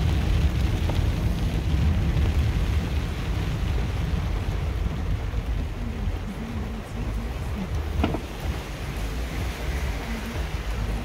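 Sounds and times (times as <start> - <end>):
car driving rumble: 0.0 - 11.0
rain: 0.0 - 11.0
tyres hissing on wet road: 0.0 - 11.0.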